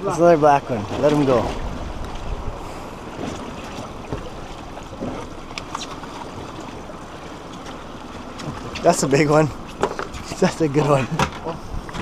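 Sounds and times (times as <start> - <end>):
sea water: 0.0 - 12.0
wind: 0.0 - 12.0.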